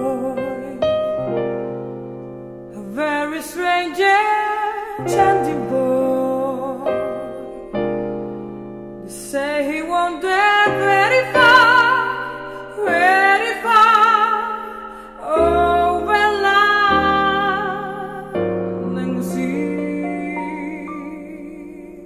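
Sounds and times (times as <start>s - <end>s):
piano chords: 0.0s - 22.0s
woman singing with vibrato: 2.8s - 7.7s, 9.0s - 22.0s.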